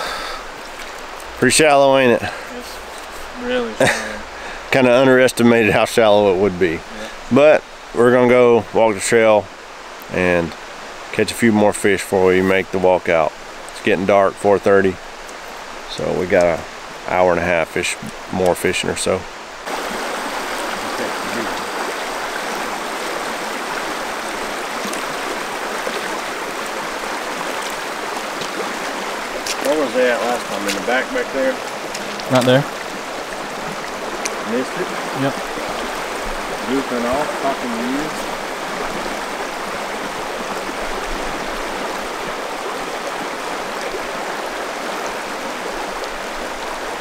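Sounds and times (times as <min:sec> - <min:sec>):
water running over rocks: 0:00.0 - 0:47.0.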